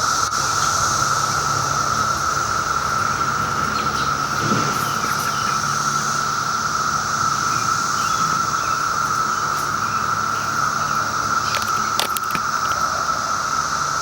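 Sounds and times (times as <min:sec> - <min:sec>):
cicadas droning: 0:00.0 - 0:14.0.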